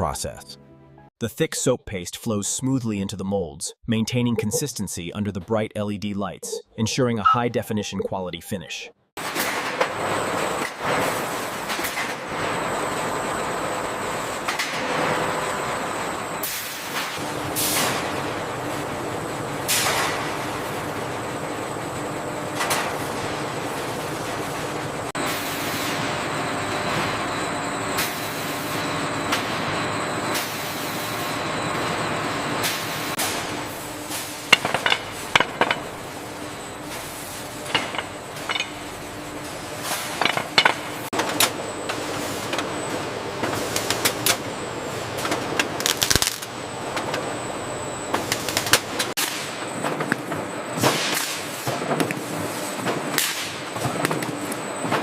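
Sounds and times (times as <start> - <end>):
machinery humming: 9.6 - 55.0.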